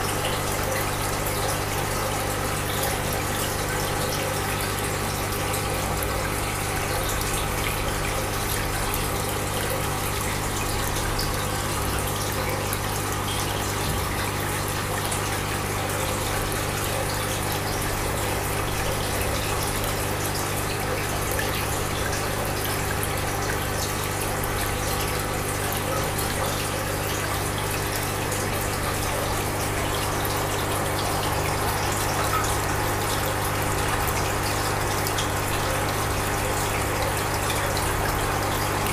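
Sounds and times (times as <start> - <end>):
low pump hum: 0.0 - 38.9
rushing water: 0.0 - 38.9.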